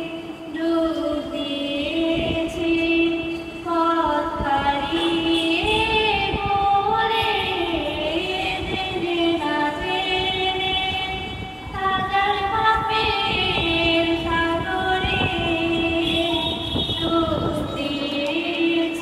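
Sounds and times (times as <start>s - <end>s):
woman singing unaccompanied: 0.0s - 19.0s.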